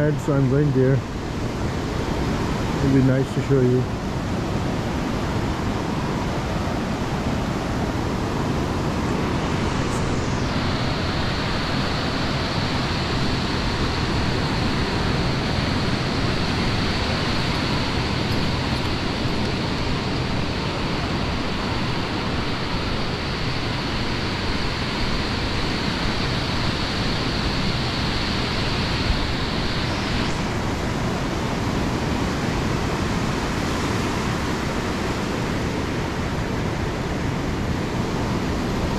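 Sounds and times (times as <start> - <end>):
ocean surf rushing: 0.0 - 38.9
wind: 0.0 - 38.9.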